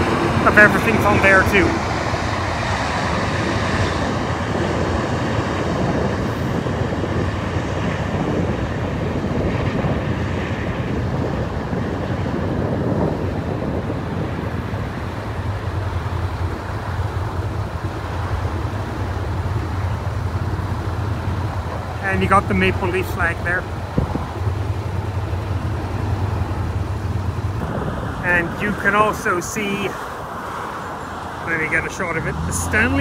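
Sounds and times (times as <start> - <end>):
road traffic rumble: 0.0 - 33.0
wind buffeting microphone: 0.0 - 33.0.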